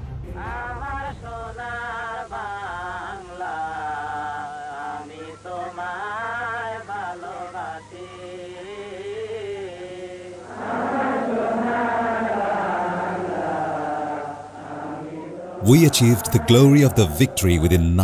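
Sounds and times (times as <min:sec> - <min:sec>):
person singing slow melody: 0:00.4 - 0:18.0
voices chanting: 0:01.8 - 0:18.0.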